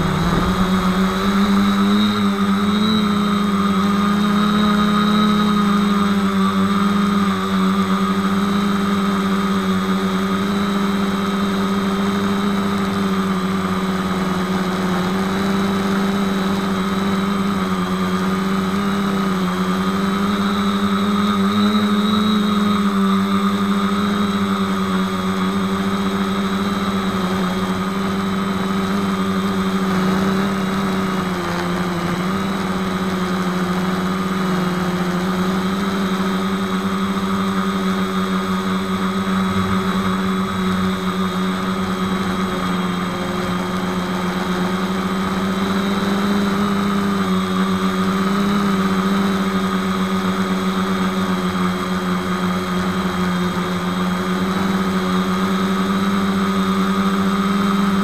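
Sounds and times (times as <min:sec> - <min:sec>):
quadcopter motors buzzing: 0:00.0 - 0:58.0.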